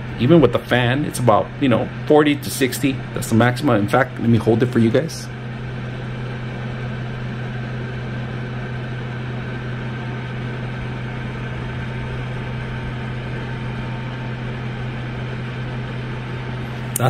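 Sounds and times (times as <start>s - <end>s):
heater fan air rush: 0.0s - 17.0s
low hum: 0.0s - 17.0s.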